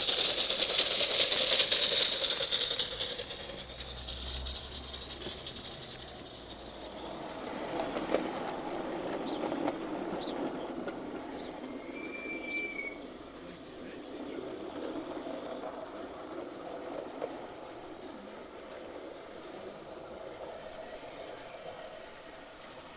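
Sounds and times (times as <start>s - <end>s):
model train rolling on track: 0.0s - 22.9s.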